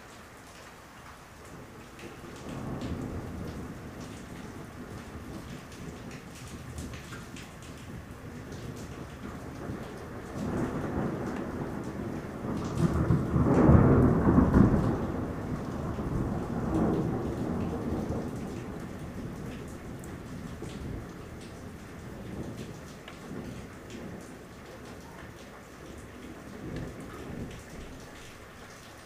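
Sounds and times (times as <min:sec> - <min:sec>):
steady rain: 0:00.0 - 0:29.0
rolling thunder: 0:02.3 - 0:28.1.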